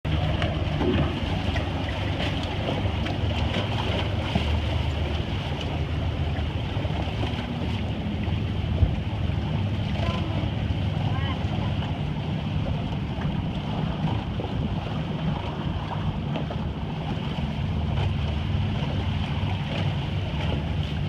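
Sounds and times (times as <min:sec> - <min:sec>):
water rushing along hull: 0:00.0 - 0:21.0
wind buffeting microphone: 0:00.1 - 0:21.0.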